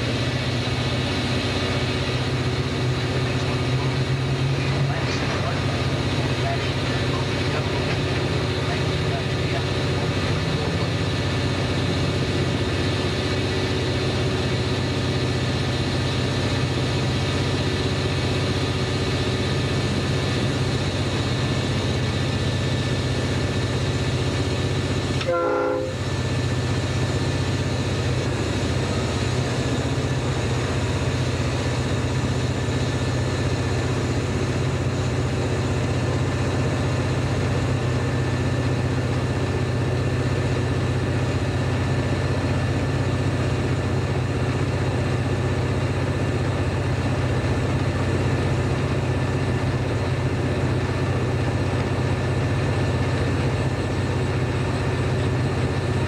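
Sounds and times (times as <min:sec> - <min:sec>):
locomotive engine droning: 0:00.0 - 0:56.0
rail running noise: 0:00.0 - 0:56.0.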